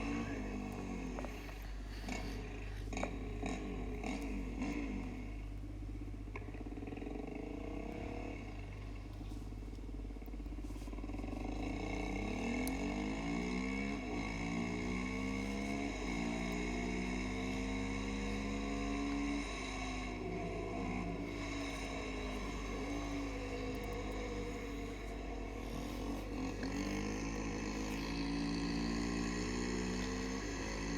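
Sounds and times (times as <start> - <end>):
quad bike engine accelerating: 0.0 - 5.5, 6.4 - 8.7, 10.2 - 30.9
steady low hum: 0.0 - 30.9.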